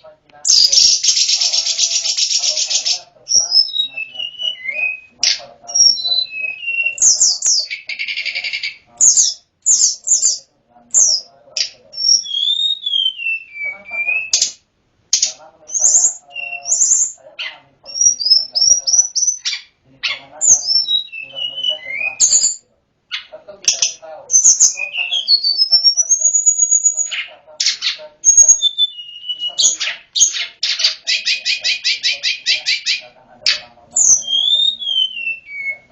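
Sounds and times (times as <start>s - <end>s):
songbird singing: 0.0s - 35.9s.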